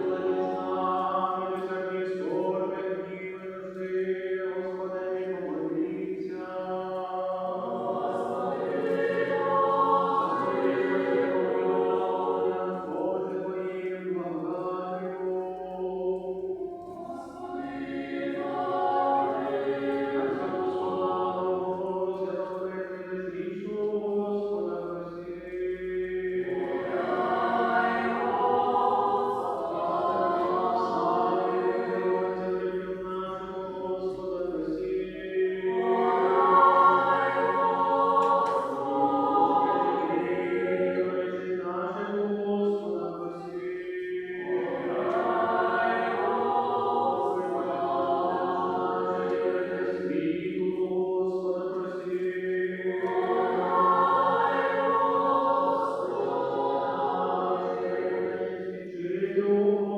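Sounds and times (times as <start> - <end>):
choir chanting unaccompanied: 0.0 - 59.9.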